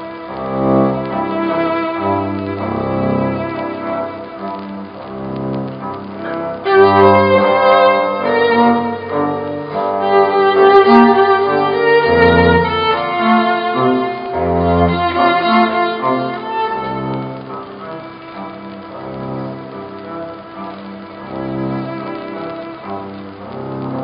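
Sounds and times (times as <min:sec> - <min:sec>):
cello bowed notes: 0:00.0 - 0:24.0.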